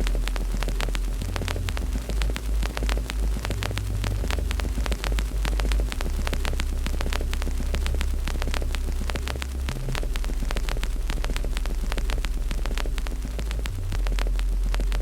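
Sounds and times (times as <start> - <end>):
loud steady low hum: 0.0 - 15.0
wood fire crackling and popping: 0.0 - 15.0.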